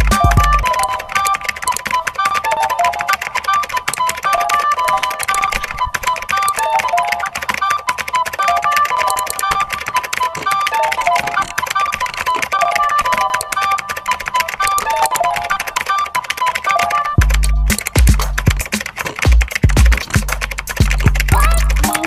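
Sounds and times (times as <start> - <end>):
upbeat music: 0.0 - 22.0.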